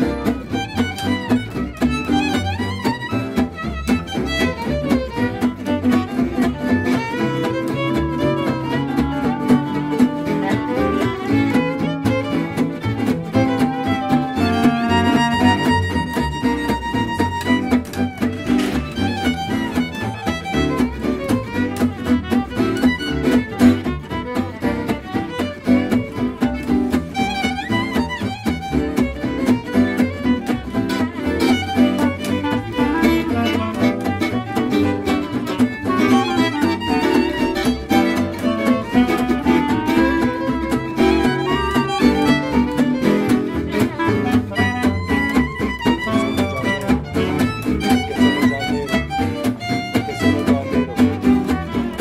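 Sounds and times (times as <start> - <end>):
acoustic guitar strumming: 0.0 - 52.0
violin melody: 0.0 - 52.0.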